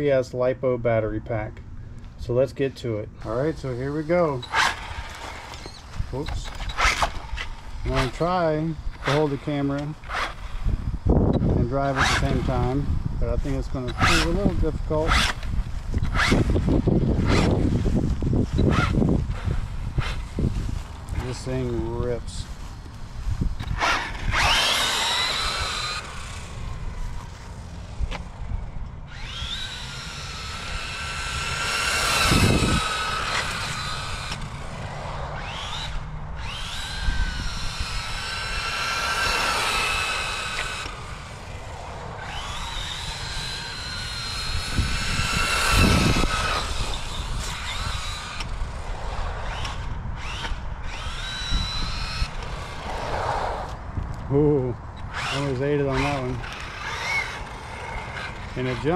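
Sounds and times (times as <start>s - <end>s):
electric motor whining: 3.2s - 58.9s.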